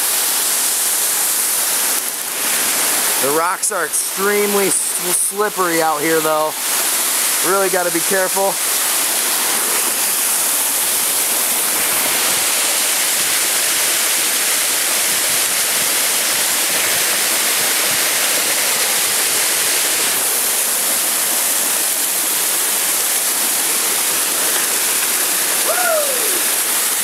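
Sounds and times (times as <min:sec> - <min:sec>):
waterfall splashing over rocks: 0:00.0 - 0:27.0.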